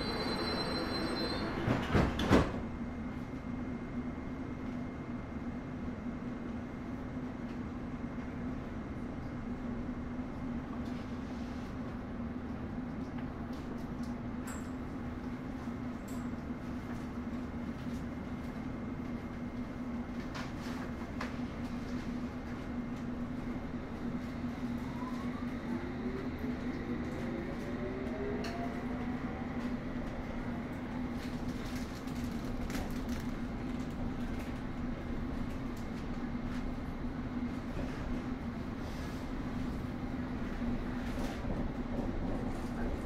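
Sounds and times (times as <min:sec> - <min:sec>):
train carriage hum: 0:00.0 - 0:43.0.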